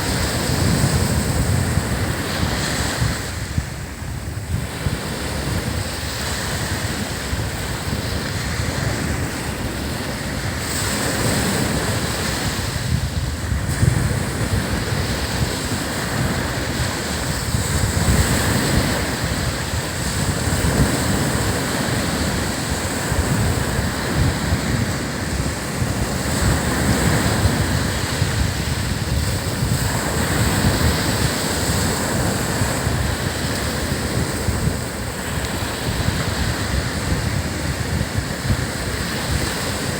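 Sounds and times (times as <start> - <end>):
ocean surf breaking on beach: 0.0 - 39.9
wind rumbling on microphone: 0.0 - 39.9.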